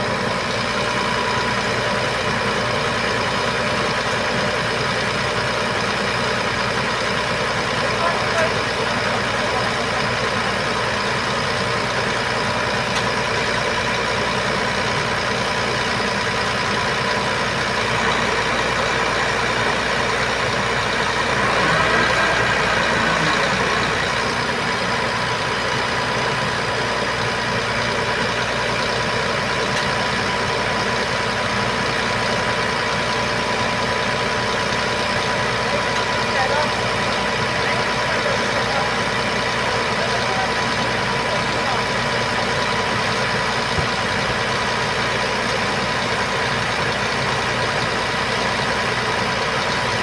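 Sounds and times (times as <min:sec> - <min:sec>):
diesel truck engine running: 0:00.0 - 0:50.0.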